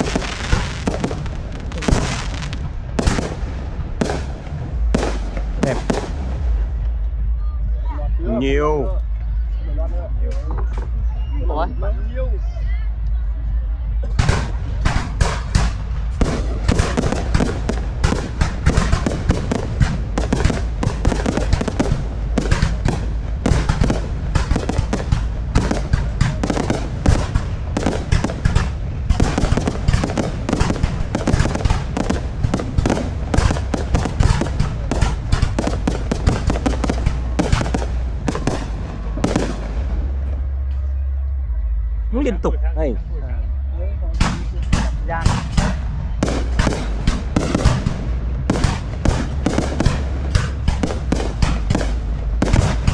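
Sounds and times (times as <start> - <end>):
fireworks bangs and crackles: 0.0 - 7.4, 14.0 - 40.8, 44.2 - 52.9.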